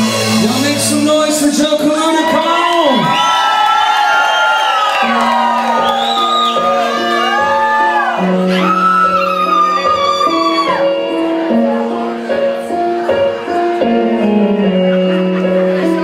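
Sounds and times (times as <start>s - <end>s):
rock band playing: 0.0s - 3.3s, 4.9s - 16.0s.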